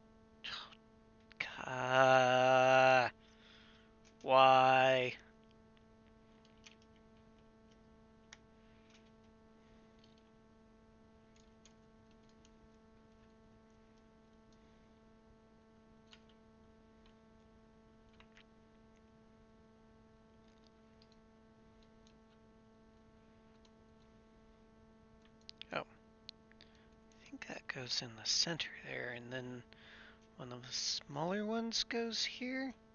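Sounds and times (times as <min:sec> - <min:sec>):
steady electrical hum: 0:00.0 - 0:32.9.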